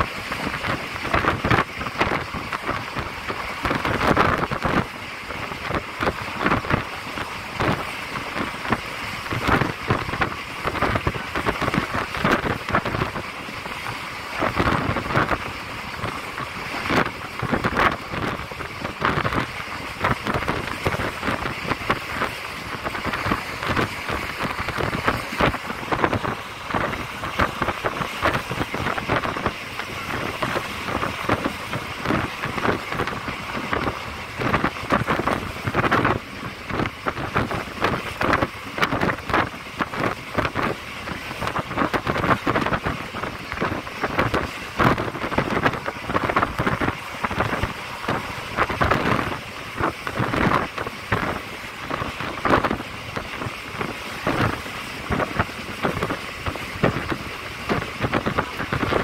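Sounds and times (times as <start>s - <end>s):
train clattering and rattling: 0.0s - 59.0s
train rushing along track: 0.0s - 59.0s.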